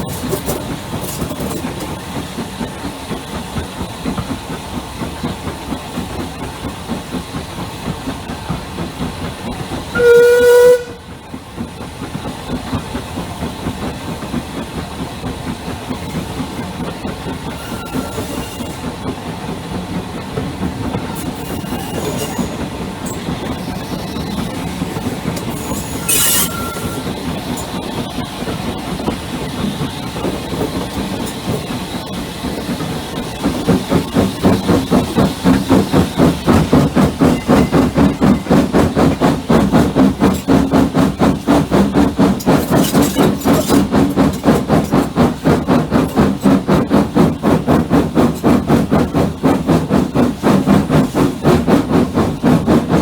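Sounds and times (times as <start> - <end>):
steam locomotive exhaust chuffing: 0.0 - 53.0
steam train rumble and hiss: 0.0 - 53.0.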